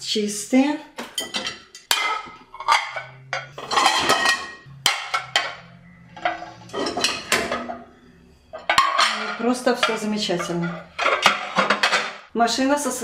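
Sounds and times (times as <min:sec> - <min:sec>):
ceramic plates clinking: 0:01.0 - 0:12.3.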